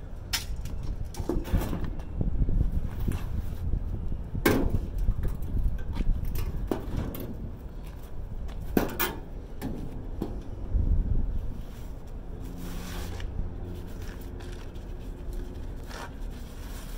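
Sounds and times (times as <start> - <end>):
steady low rumble: 0.0 - 16.9.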